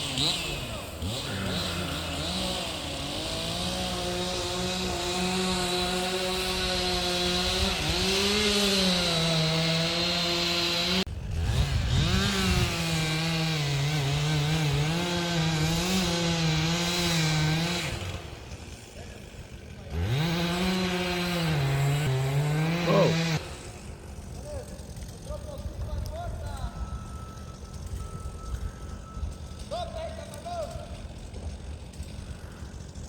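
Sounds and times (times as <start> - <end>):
chainsaw revving: 0.0 - 26.1, 26.7 - 33.0.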